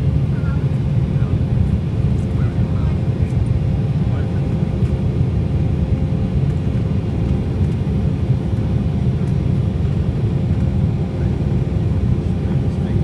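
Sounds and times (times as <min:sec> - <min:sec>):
jet engines and airflow: 0:00.0 - 0:13.0.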